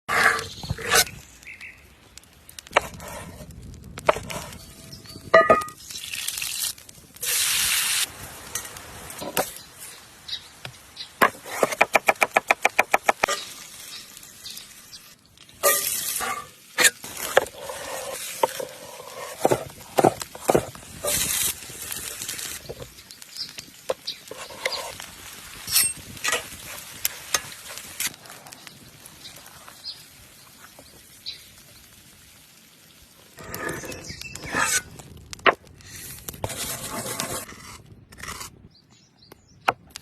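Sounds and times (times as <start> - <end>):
food sizzling: 2.7 - 36.6.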